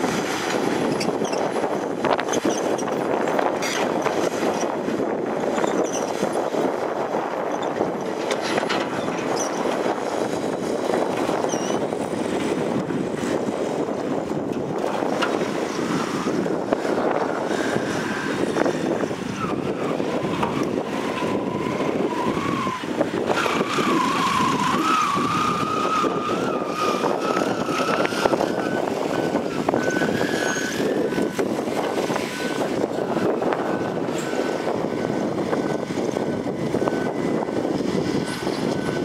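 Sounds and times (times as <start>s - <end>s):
hydraulic whine: 0.2s - 39.0s.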